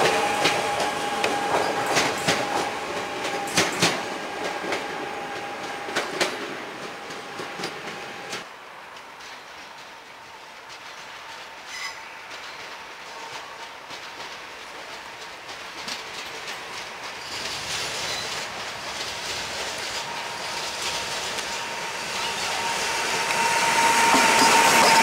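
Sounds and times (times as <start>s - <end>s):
wheels clicking over rail joints: 0.0s - 22.6s
electric train passing: 0.0s - 25.0s.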